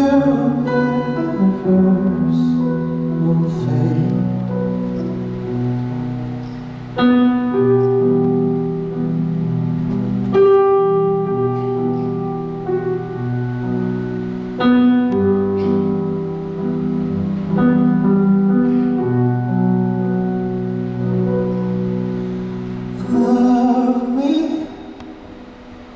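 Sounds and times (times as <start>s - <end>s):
piano playing slow chords: 0.0s - 25.9s.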